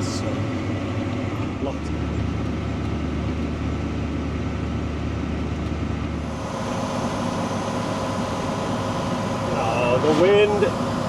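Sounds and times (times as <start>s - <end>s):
tractor engine humming: 0.0s - 11.0s.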